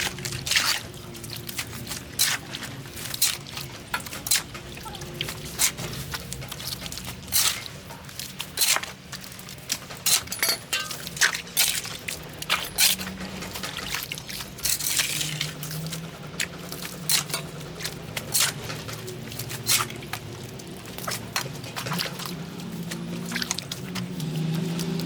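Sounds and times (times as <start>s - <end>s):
water splashing and squishing: 0.0s - 25.0s.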